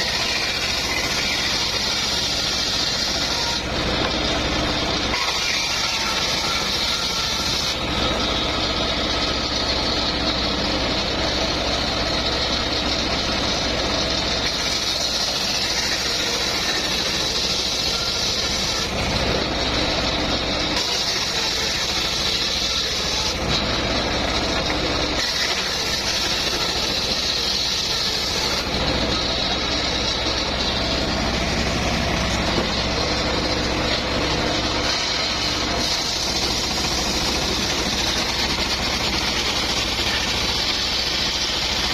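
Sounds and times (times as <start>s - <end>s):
saw blade cutting wood: 0.0s - 41.9s
sawmill engine running: 0.0s - 41.9s.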